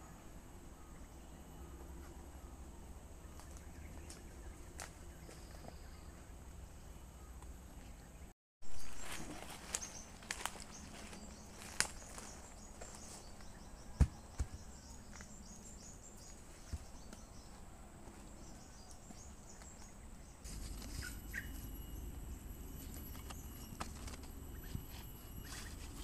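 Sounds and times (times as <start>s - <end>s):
birds or insects chirping: 0.0s - 26.0s.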